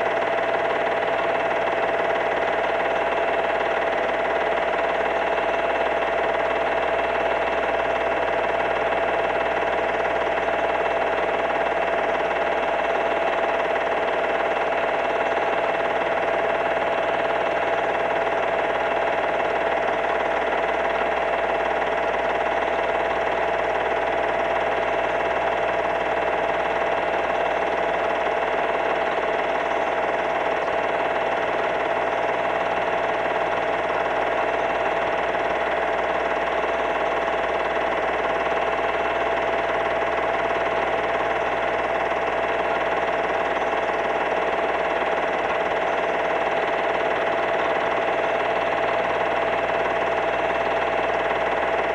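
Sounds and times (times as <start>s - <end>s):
steady hum with a whine: 0.0s - 51.9s.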